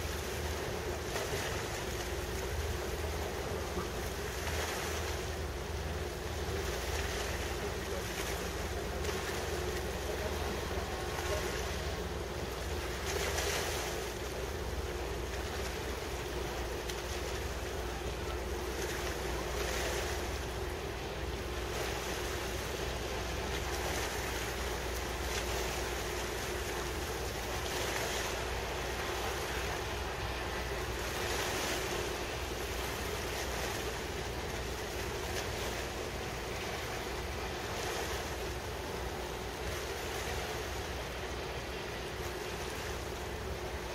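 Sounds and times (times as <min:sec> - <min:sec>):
steady low hum: 0:00.0 - 0:43.9
water lapping: 0:00.0 - 0:43.9.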